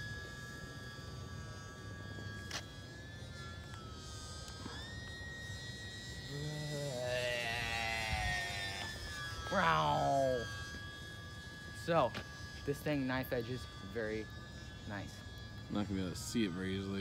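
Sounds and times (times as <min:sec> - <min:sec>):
model plane electric motor whining: 0:00.0 - 0:17.0.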